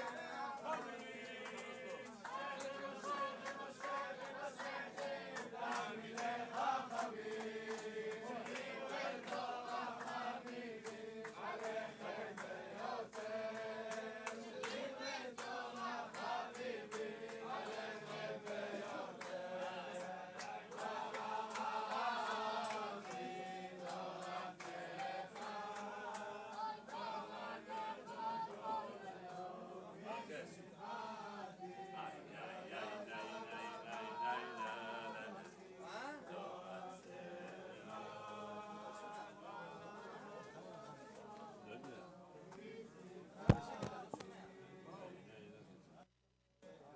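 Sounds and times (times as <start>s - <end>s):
crowd of men singing: 0.0s - 45.7s.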